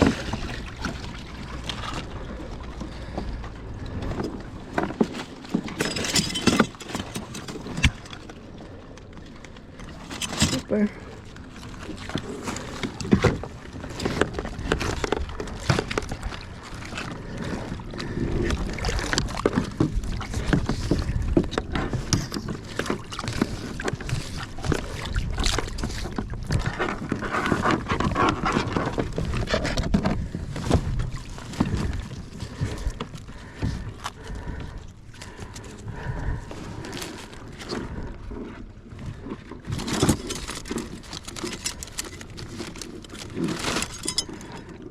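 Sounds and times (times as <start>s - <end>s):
knocks and clatter on hull: 0.0s - 44.9s
water splashing and sloshing: 0.0s - 44.9s.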